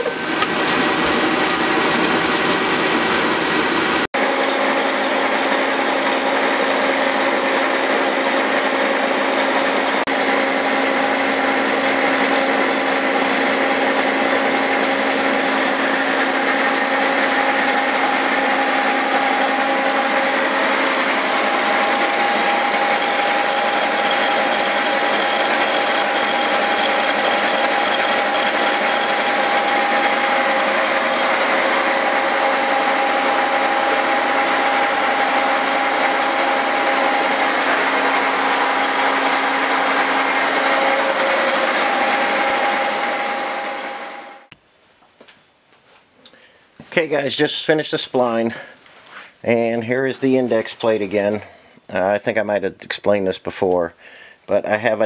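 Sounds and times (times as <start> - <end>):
lathe turning: 0.0 - 44.6
milling machine whine: 0.0 - 44.6.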